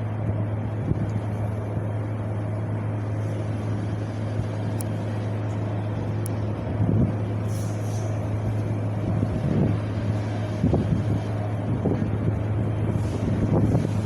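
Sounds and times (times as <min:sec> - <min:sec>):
wind rumbling and hissing: 0:00.0 - 0:14.0.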